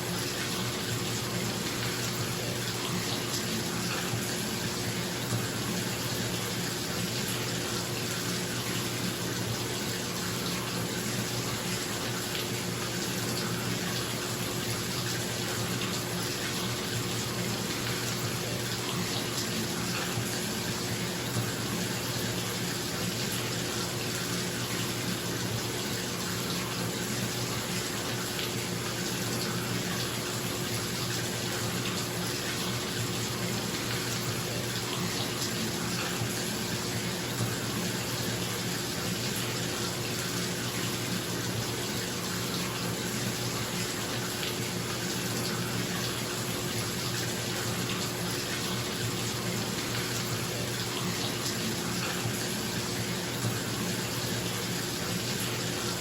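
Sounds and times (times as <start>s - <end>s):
bathtub tap running: 0.0s - 56.0s.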